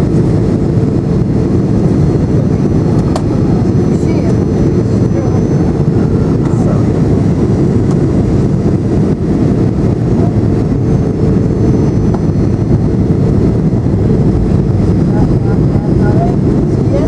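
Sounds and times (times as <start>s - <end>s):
jet engine roar in cabin: 0.0s - 17.0s.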